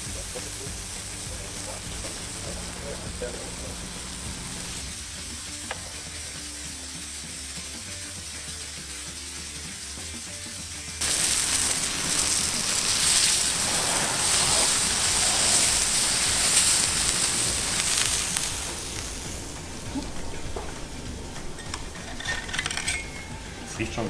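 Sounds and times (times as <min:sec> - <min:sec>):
squid sizzling on hot plate: 0:00.0 - 0:23.7.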